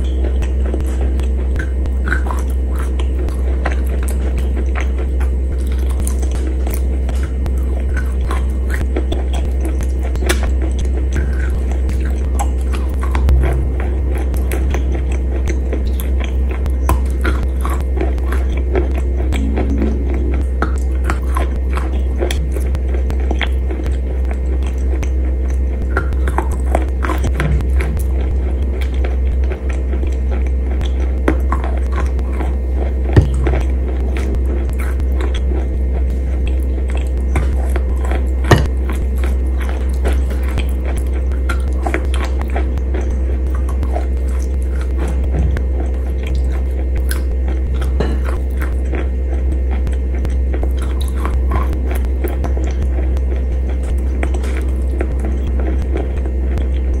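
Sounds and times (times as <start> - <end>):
chewing wet paste: 0.0 - 57.0
low hum: 0.0 - 57.0.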